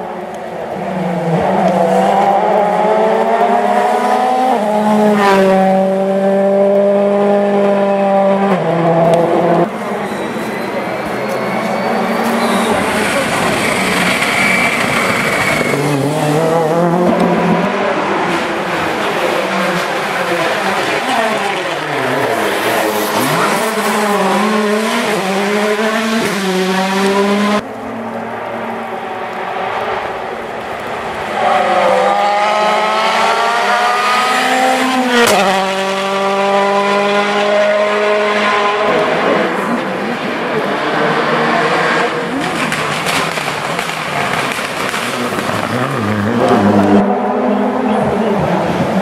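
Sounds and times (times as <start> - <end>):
rally car engine revving: 0.6 - 10.1, 10.7 - 30.1, 31.0 - 49.0.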